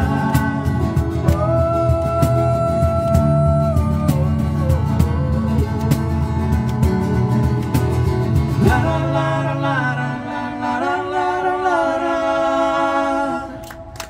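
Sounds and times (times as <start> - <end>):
voices singing in harmony: 0.0 - 6.0, 8.5 - 14.0
acoustic guitars strumming: 0.0 - 13.9.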